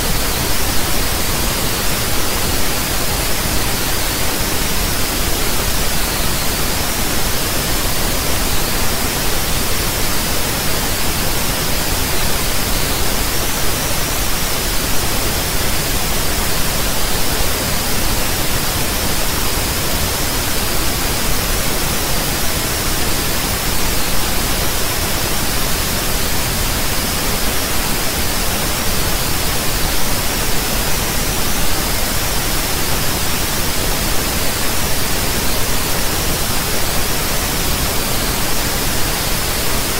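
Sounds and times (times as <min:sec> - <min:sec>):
steady static hiss: 0:00.0 - 0:39.9.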